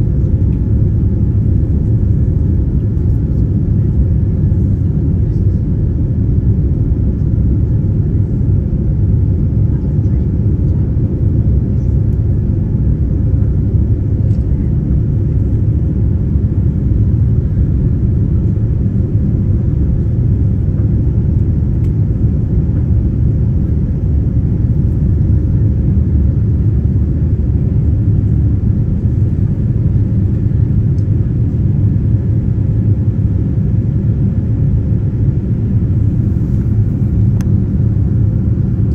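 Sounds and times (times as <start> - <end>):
airplane engines rumbling: 0.0 - 38.9.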